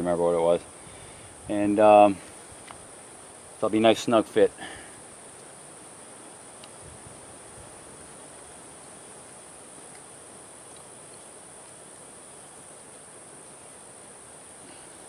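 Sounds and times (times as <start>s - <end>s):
faint outdoor hiss: 0.0s - 15.0s
insect chorus buzzing: 0.0s - 15.0s.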